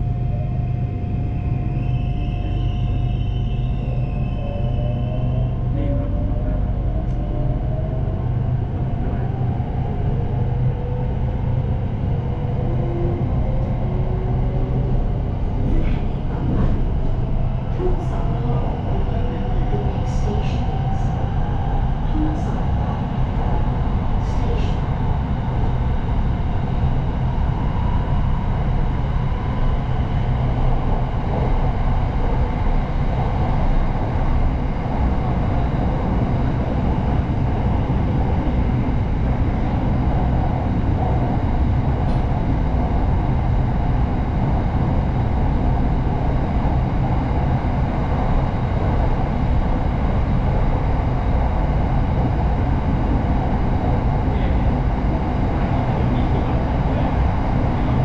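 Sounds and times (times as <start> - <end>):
train rumble from inside carriage: 0.0 - 58.0.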